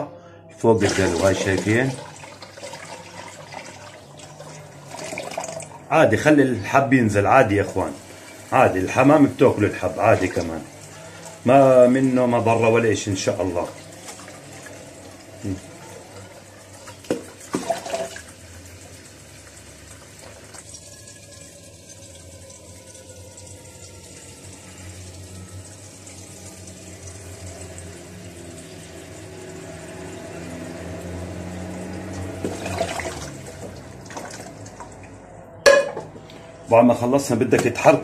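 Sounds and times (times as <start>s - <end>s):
water pouring into plastic bucket: 0.7s - 35.2s.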